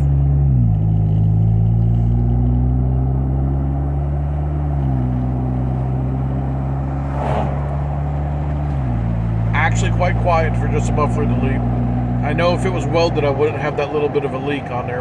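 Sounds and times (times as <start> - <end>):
engine exhaust accelerating: 0.0 - 15.0.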